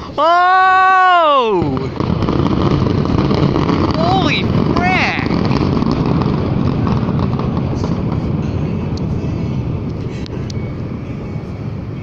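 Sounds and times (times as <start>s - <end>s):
faint fireworks crackles: 0.0s - 12.0s
distant fireworks rumbling: 1.4s - 12.0s.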